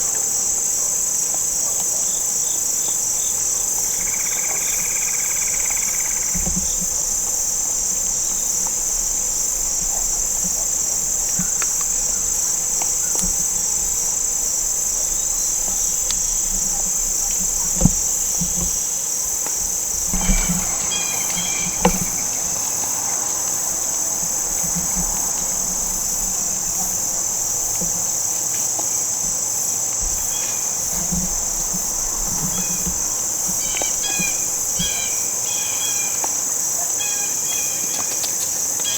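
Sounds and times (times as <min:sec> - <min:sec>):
insects shrilling: 0:03.0 - 0:38.9.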